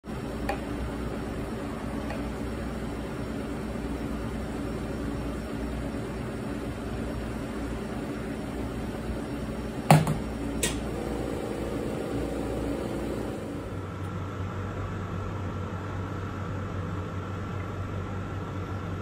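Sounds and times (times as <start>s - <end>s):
low room hum: 0.1s - 19.0s.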